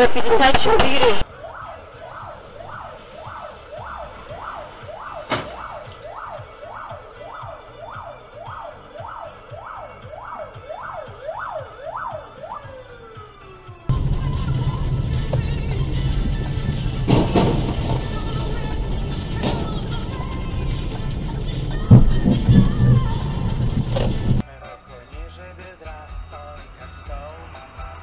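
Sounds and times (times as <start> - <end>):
siren yelping: 0.2 - 24.4.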